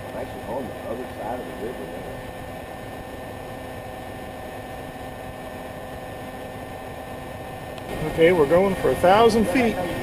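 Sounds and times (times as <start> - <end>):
faint constant tones: 0.0 - 10.0
steady hum and hiss: 0.0 - 10.0.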